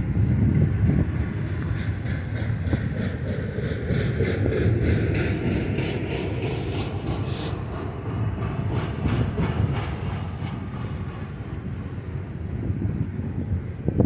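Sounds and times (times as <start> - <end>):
rumble of steel wheels on rails: 0.0 - 14.0.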